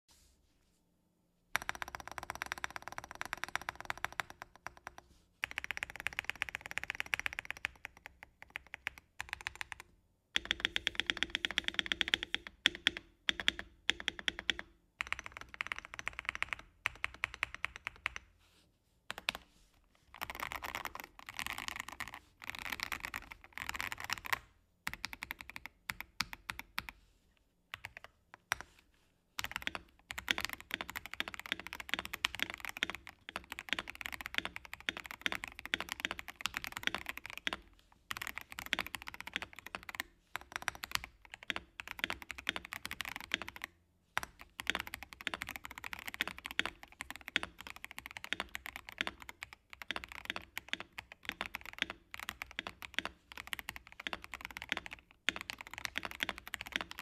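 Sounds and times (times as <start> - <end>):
fast typing on mechanical keyboard: 1.6 - 18.3, 20.2 - 26.9, 27.8 - 28.6, 29.4 - 57.0.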